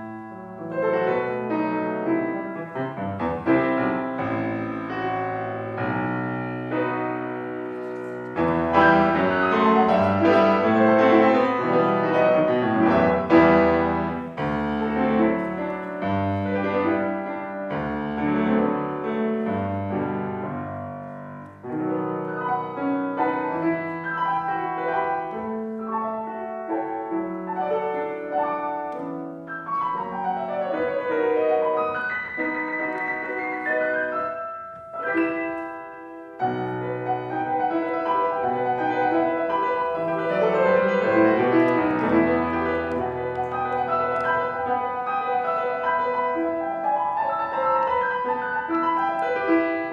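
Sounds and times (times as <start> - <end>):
classical piano piece: 0.0 - 49.9.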